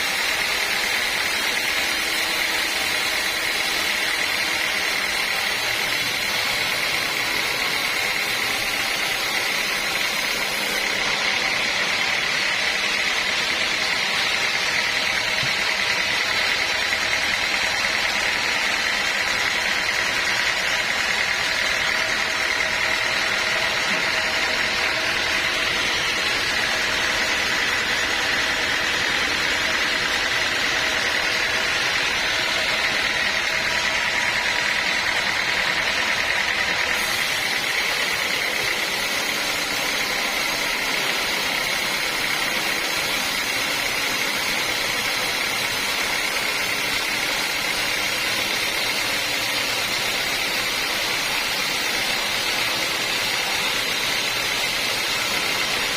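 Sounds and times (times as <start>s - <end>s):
sawmill machinery whining: 0.0s - 55.9s.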